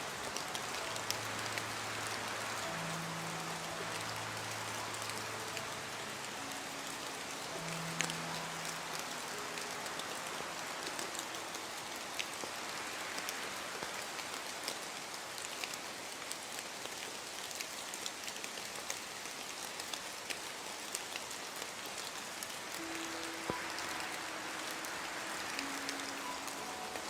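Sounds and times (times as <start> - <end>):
raindrops ticking close by: 0.0 - 27.0
steady rain hiss: 0.0 - 27.0.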